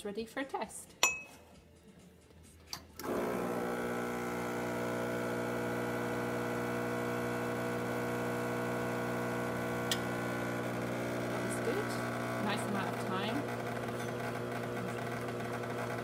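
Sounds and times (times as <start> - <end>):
espresso machine pump humming: 3.0 - 16.0.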